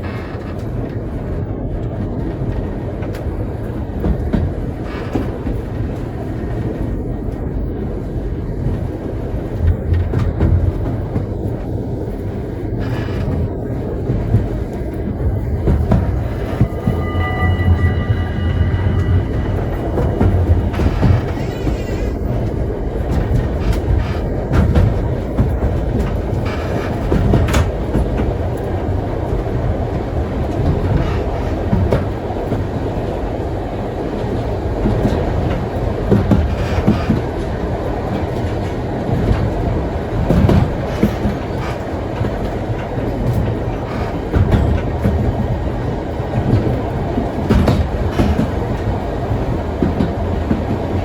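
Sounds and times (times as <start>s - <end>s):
steam train rolling on track: 0.0s - 51.0s.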